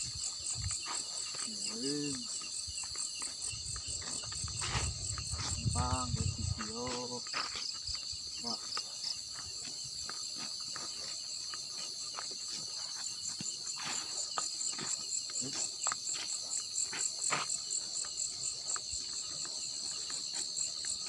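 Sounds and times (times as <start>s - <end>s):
crickets and insects chirping: 0.0s - 21.0s.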